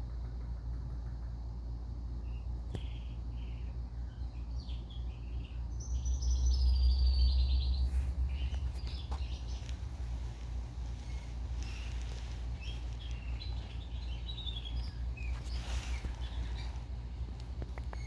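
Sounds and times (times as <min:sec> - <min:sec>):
steady low rumble: 0:00.0 - 0:18.0
parakeets chirping: 0:02.2 - 0:18.0.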